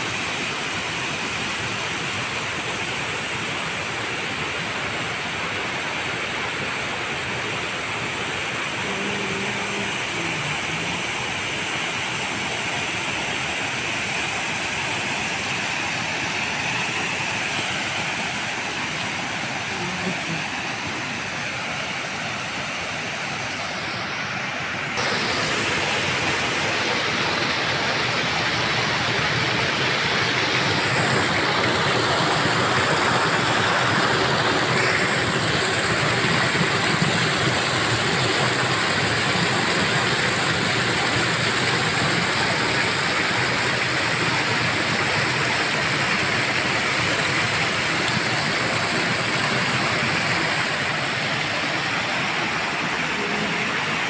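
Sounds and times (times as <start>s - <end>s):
water rushing over a dam: 0.0s - 54.0s.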